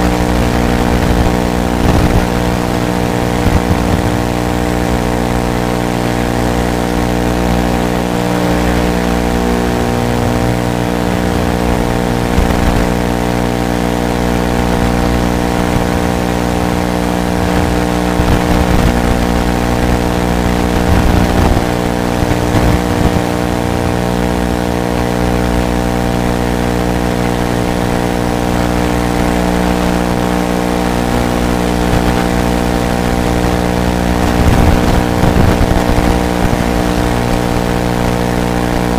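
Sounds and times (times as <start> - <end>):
quadcopter motors buzzing: 0.0 - 38.9.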